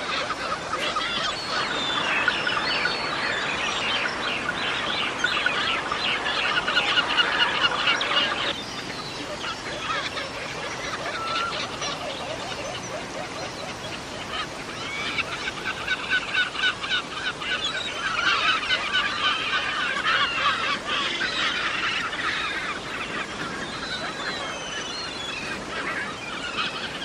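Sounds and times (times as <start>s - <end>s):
birds chirping and chattering: 0.0s - 27.0s.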